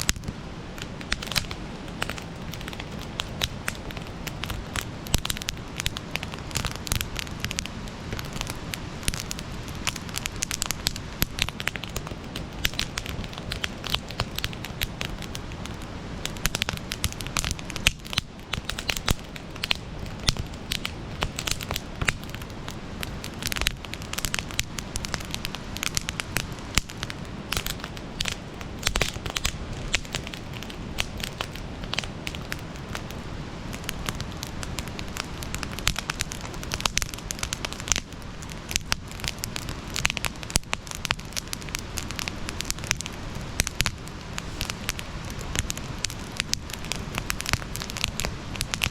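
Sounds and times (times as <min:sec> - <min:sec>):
campfire crackling: 0:00.0 - 0:48.9.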